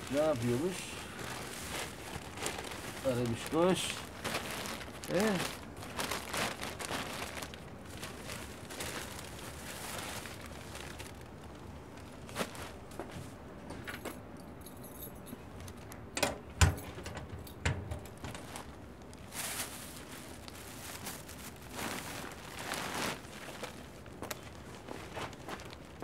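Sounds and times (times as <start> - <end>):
plastic bags rustling: 0.0 - 13.4, 18.1 - 26.0.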